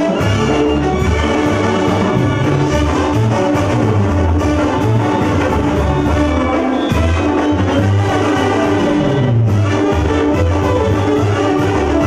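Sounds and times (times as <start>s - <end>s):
brass band music: 0.0s - 12.0s
drums: 0.0s - 12.0s
tuba bass line: 0.0s - 12.0s.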